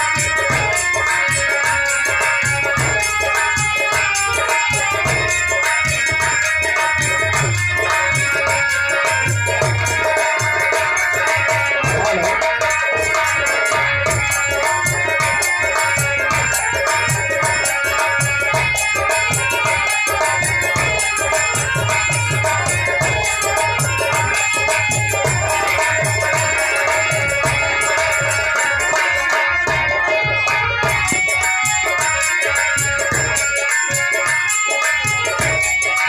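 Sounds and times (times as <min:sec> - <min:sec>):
harmonium chords and melody: 0:00.0 - 0:36.0.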